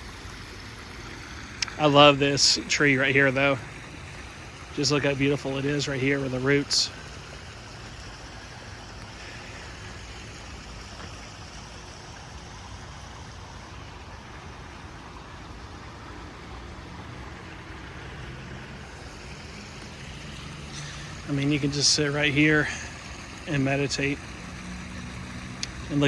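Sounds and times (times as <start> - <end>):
creek flowing over stones: 0.0 - 26.0.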